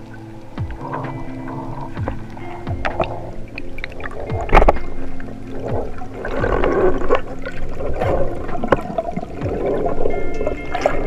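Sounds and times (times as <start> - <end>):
background music held notes: 0.0 - 11.0.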